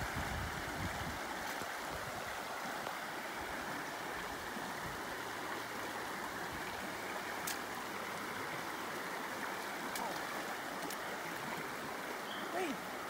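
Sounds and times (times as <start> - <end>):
river rapids rushing over rocks: 0.0 - 13.0.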